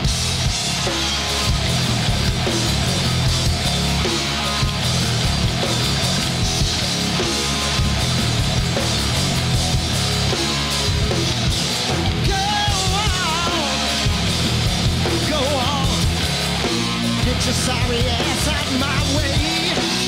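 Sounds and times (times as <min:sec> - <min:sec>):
bass guitar: 0:00.0 - 0:20.0
distorted electric guitar: 0:00.0 - 0:20.0
rock drums: 0:00.0 - 0:20.0.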